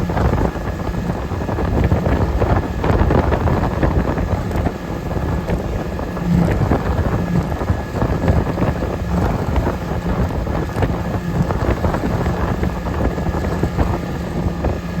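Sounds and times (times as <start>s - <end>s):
motorboat engine droning: 0.0s - 15.0s
wind buffeting microphone: 0.0s - 15.0s.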